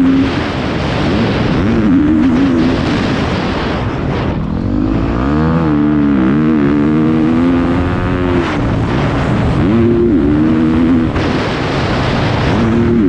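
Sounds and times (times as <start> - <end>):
motocross bike engine: 0.0 - 13.0
wind rushing: 0.0 - 13.0.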